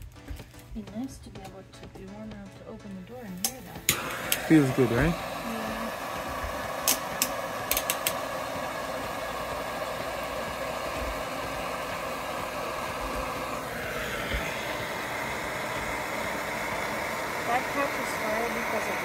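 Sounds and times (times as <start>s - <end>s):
gas torch hissing: 3.1s - 19.0s.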